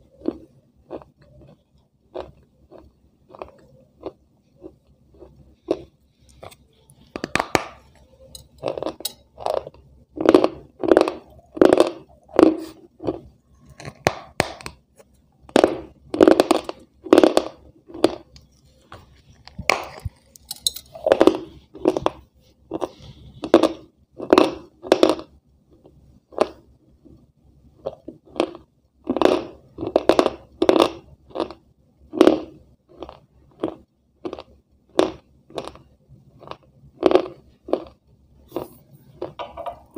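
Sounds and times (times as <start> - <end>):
person crunching brittle food: 0.1 - 14.8, 15.4 - 39.9.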